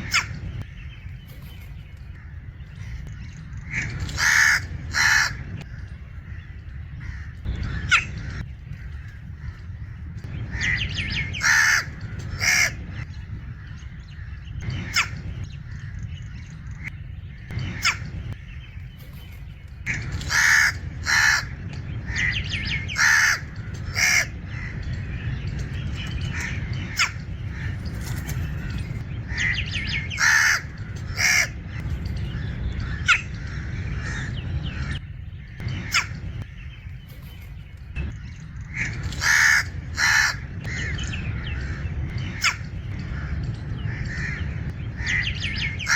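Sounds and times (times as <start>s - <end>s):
crows calling harshly: 0.0s - 45.9s
steady low rumble: 0.0s - 45.9s.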